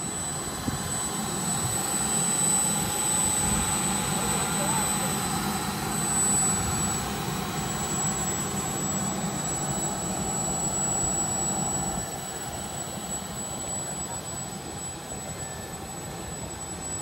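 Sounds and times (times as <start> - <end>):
small jet turbine engine whine: 0.0 - 17.0.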